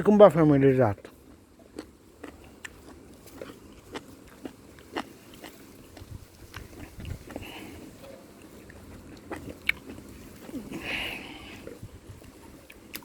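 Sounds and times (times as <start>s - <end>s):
person chewing crunchy vegetable: 0.9s - 13.0s.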